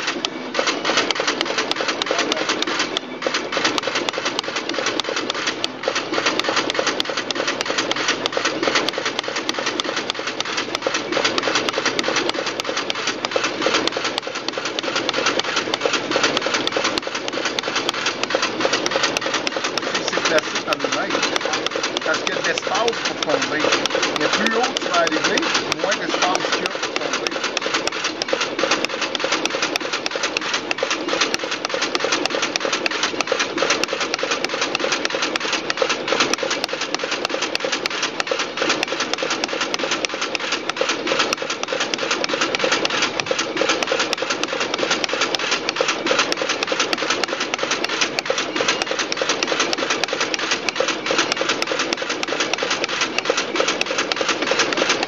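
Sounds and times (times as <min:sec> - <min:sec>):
card cutting machine clicking: 0:00.0 - 0:55.0.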